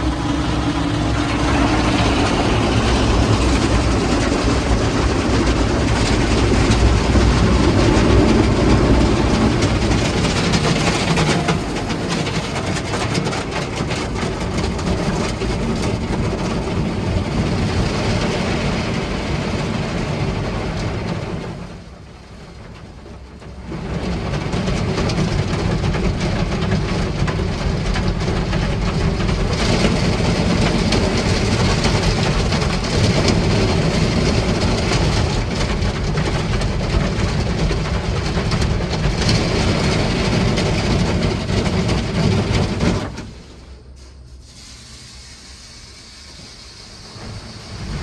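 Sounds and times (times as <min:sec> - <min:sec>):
car wash water and machine rush: 0:00.0 - 0:48.0.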